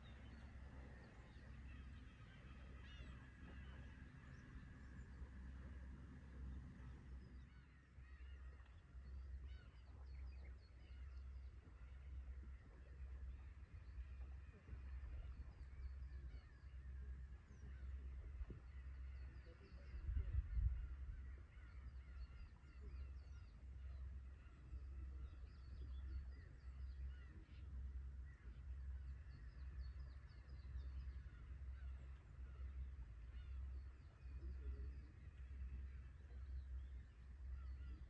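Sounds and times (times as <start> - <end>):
distant gulls calling: 0.0 - 38.0.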